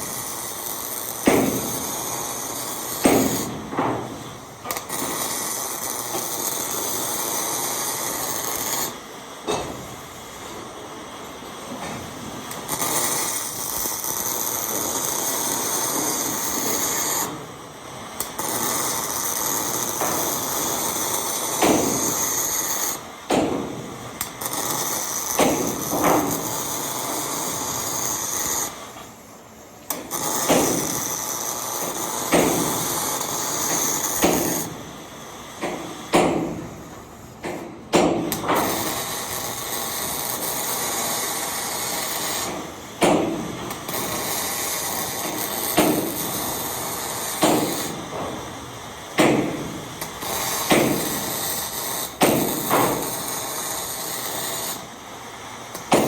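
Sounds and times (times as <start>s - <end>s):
welding arc crackling: 0.0s - 56.0s.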